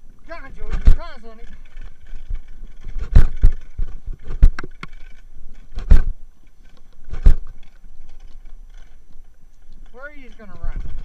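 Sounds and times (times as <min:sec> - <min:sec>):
wheels rolling over dirt trail: 0:00.0 - 0:11.0
rig knocking and rattling: 0:00.3 - 0:11.0.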